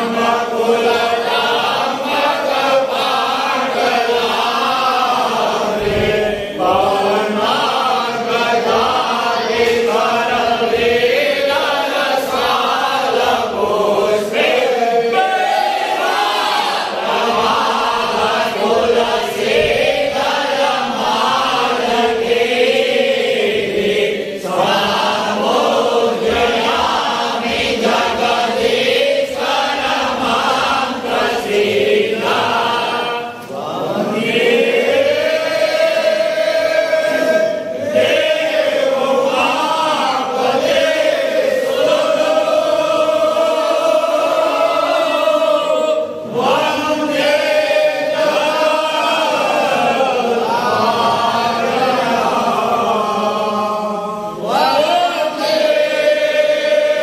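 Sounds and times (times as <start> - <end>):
men chanting a hymn in unison: 0.0 - 57.0.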